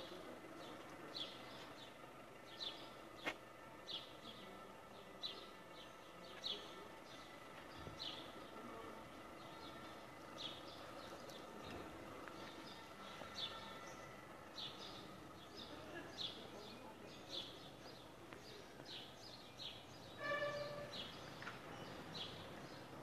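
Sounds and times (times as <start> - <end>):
faint town background: 0.0 - 23.0
small birds chirping: 0.0 - 23.0.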